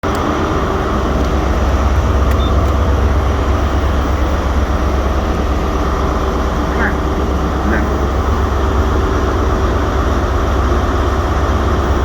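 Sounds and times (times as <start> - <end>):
lift droning hum: 0.0 - 12.0.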